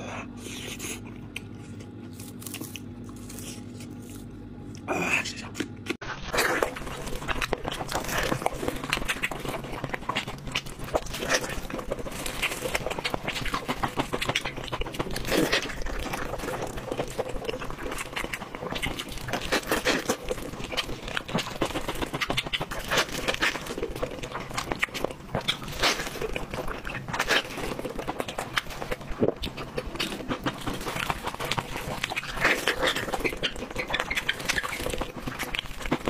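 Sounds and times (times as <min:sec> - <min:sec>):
wet chewing and lip smacking: 0:00.4 - 0:04.9, 0:05.5 - 0:36.0
meat tearing: 0:00.9 - 0:04.9, 0:06.2 - 0:36.0.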